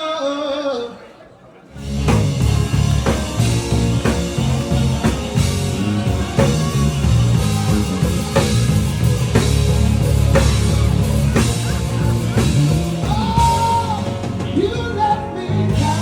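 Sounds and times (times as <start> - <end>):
bass and guitar: 1.8 - 16.0
drum kit beat: 1.8 - 16.0.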